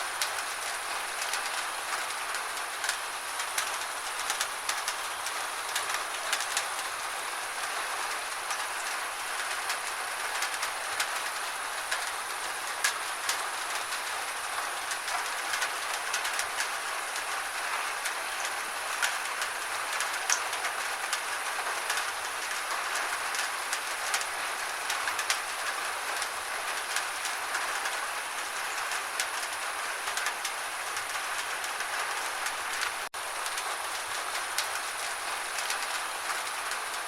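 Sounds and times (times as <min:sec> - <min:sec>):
gentle rain falling: 0:00.0 - 0:37.0.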